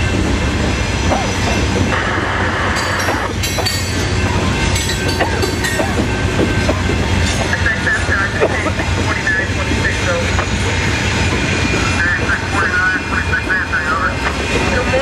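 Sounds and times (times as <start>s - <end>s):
freight train wheels rumbling on rails: 0.0s - 15.0s
clickety-clack and metallic clatter: 2.7s - 15.0s.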